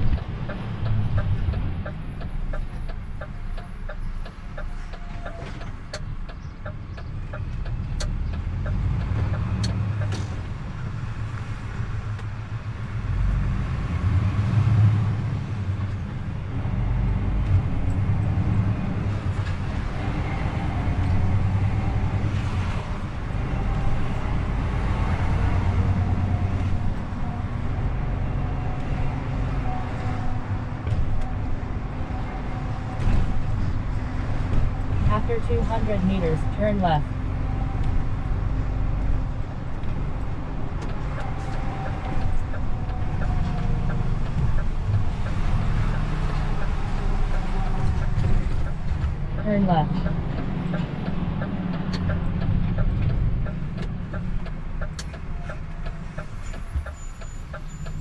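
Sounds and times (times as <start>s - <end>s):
road noise: 0.0s - 58.0s
truck diesel engine rumbling: 0.0s - 58.0s.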